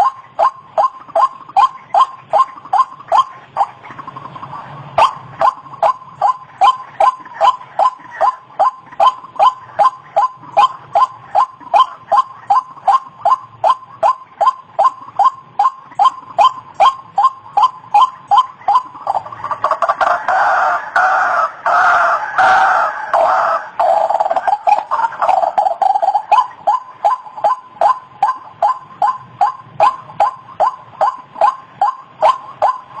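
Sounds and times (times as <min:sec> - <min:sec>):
waterhen calling harsh notes: 0:00.0 - 0:33.0.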